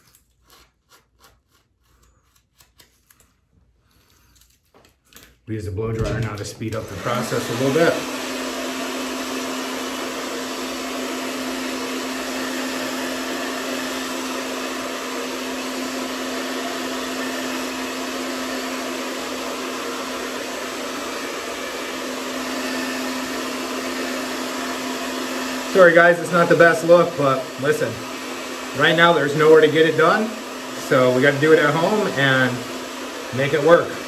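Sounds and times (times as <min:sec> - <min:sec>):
hair dryer blowing: 0:05.8 - 0:34.0.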